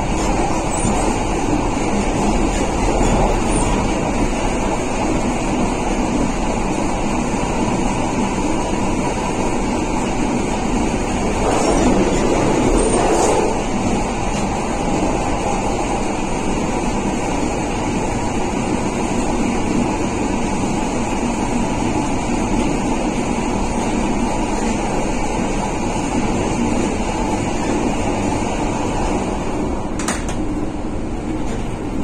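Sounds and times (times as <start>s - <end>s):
train carriage running rumble: 0.0s - 32.0s.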